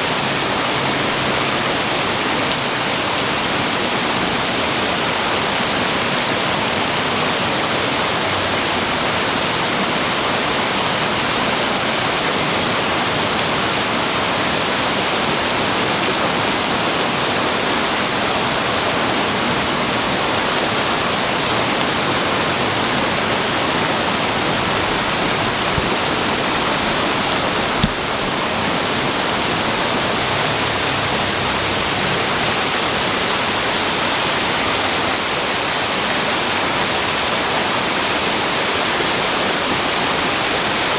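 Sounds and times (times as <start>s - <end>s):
floodwater rushing in a brook: 0.0s - 40.9s.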